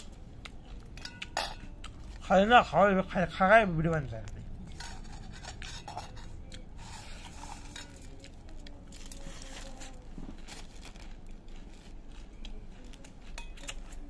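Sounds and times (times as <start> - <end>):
puffed rice crackling in a bowl: 0.1 - 14.0.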